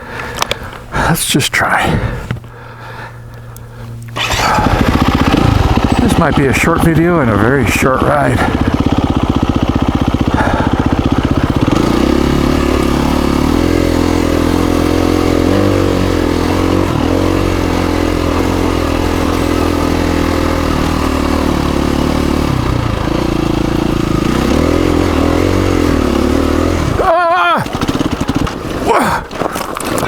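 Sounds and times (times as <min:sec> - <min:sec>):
dirt bike engine revving: 0:04.1 - 0:30.0.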